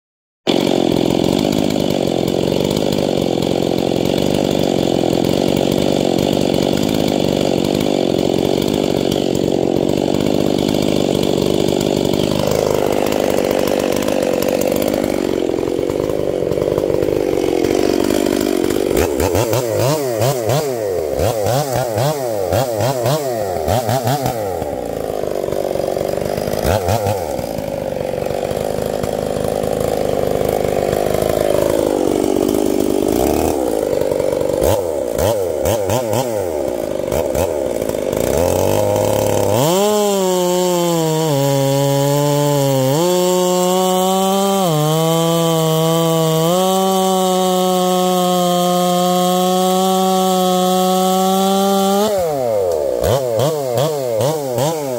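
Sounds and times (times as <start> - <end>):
chainsaw revving: 0.5 - 54.9.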